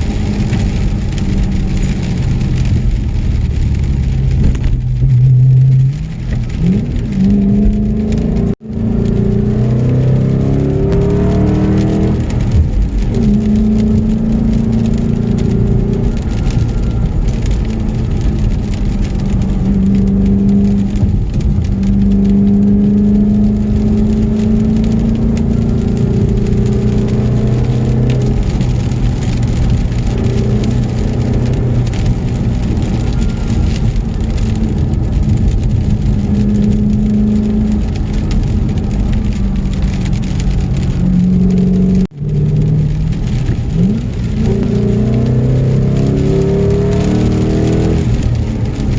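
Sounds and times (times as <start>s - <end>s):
car engine running: 0.0s - 48.9s
road and wind noise: 0.0s - 48.9s.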